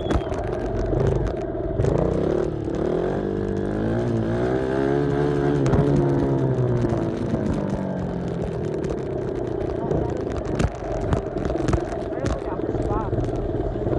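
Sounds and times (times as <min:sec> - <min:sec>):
off-road vehicle engine revving: 0:00.0 - 0:13.9.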